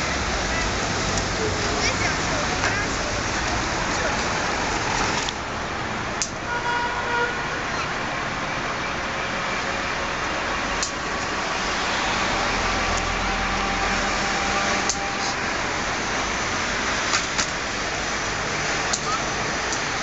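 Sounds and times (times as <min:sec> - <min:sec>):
passing car traffic: 0:00.0 - 0:20.0
tram running on rails: 0:00.0 - 0:20.0.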